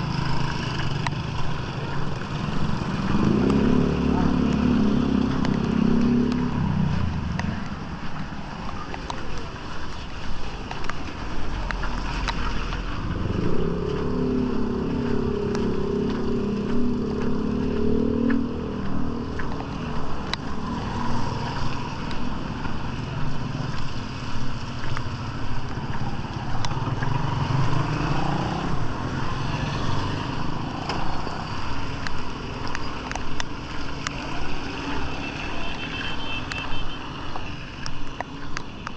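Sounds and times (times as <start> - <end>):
cars and motorcycles passing: 0.0 - 38.9.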